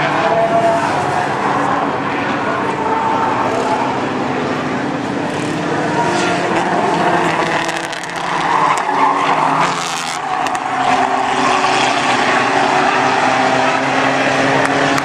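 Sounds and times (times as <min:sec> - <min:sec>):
race car engines running hard: 0:00.0 - 0:15.0
tyres squealing and skidding: 0:00.0 - 0:15.0.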